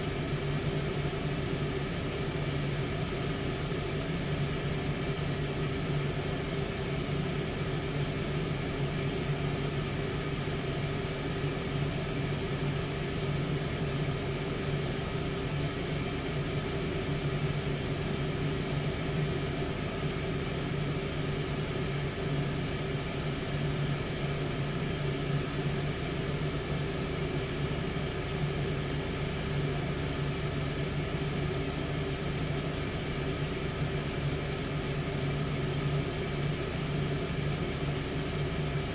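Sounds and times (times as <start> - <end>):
air fryer fan humming: 0.0 - 38.9.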